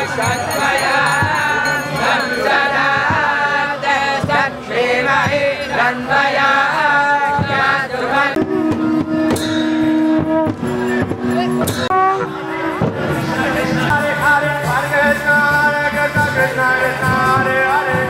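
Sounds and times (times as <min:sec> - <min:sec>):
devotional chanting and singing: 0:00.0 - 0:18.0
drum beats: 0:00.0 - 0:18.0.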